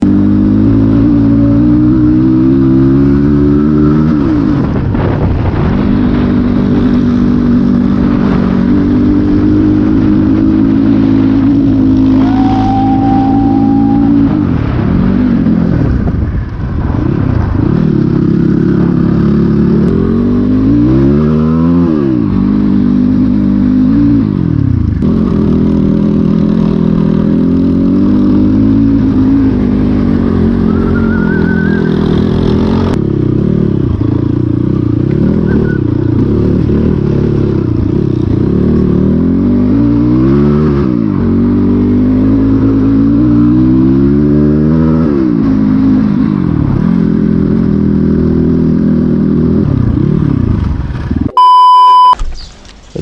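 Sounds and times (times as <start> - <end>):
dirt bike engine revving: 0.0 - 16.1, 17.6 - 52.2.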